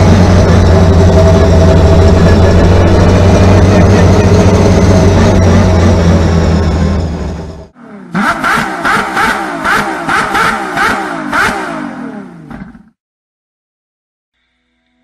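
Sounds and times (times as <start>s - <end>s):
car engine running loudly: 0.0s - 12.9s
engine revving in sharp blips: 0.0s - 13.0s.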